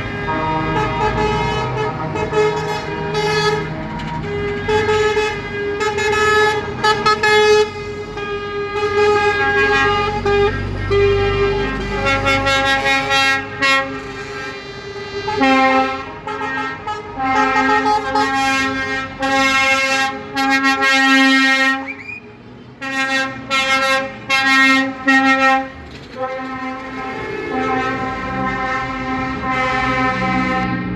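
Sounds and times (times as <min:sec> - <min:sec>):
truck air horns blasting: 0:00.0 - 0:30.9.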